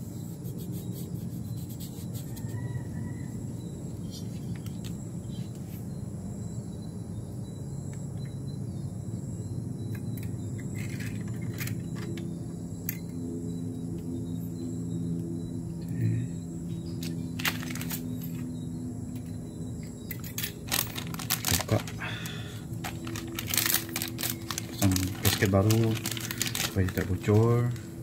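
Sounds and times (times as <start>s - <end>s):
insect chirring: 0.0s - 28.0s
low hum: 0.0s - 28.0s.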